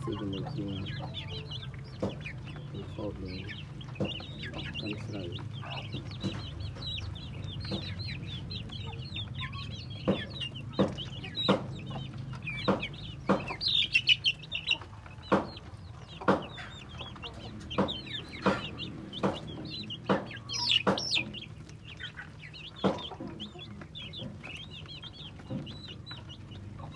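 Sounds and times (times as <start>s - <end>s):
ducklings peeping: 0.0s - 26.9s.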